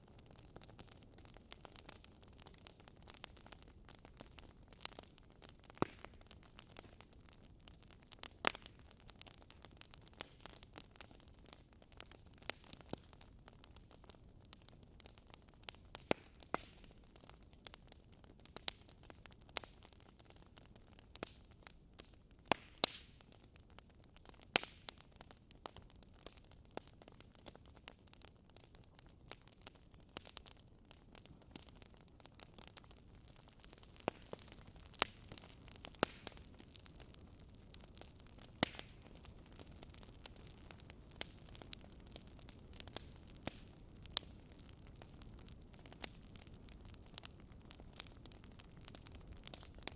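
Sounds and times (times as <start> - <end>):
low steady hiss: 0.0 - 49.9
wood fire crackling: 0.0 - 49.9.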